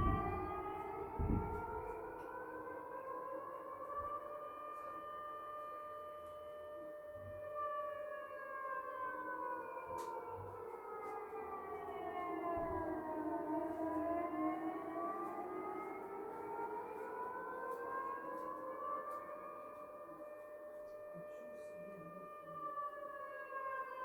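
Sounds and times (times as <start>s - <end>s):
air-raid siren wailing: 0.0s - 24.0s.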